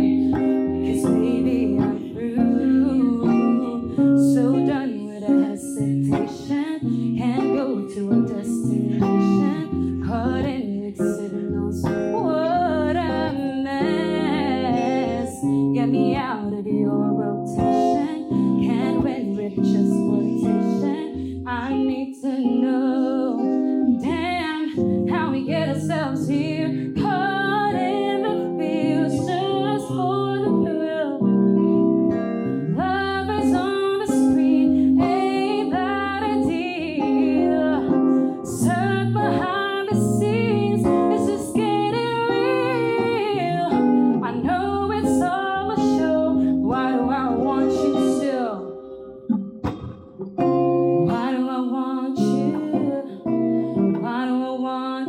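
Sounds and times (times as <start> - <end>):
woman singing: 0.0 - 32.1, 32.7 - 55.0
guitar accompaniment: 0.0 - 55.0.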